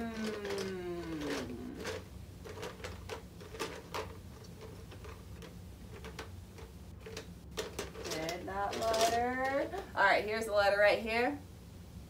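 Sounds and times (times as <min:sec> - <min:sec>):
low steady room hum: 0:00.0 - 0:12.0.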